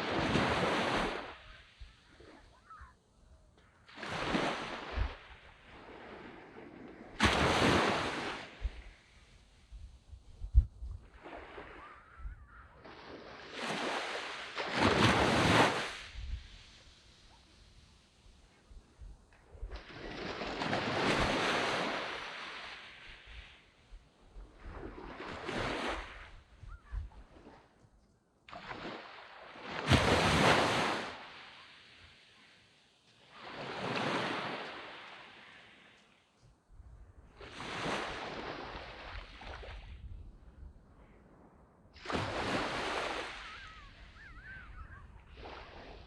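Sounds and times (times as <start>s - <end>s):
waves breaking on beach: 0.0s - 3.1s, 3.7s - 36.4s, 37.2s - 40.5s, 41.9s - 46.0s.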